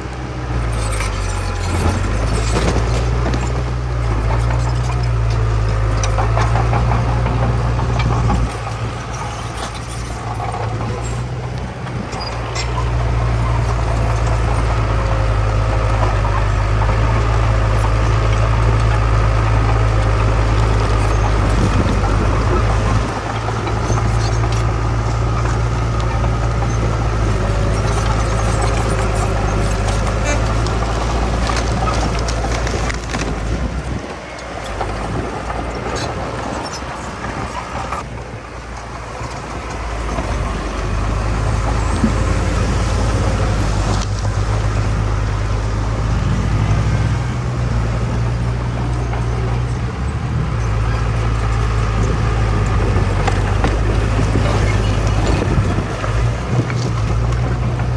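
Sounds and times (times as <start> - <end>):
heavy diesel machinery engine drone: 0.0 - 57.9.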